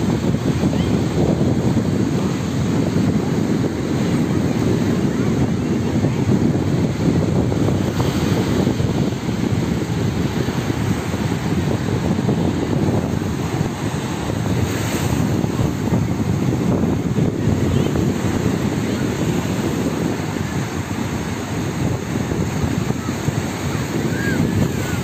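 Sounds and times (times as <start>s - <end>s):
small waves breaking on beach: 0.0s - 25.0s
wind buffeting microphone: 0.0s - 25.0s.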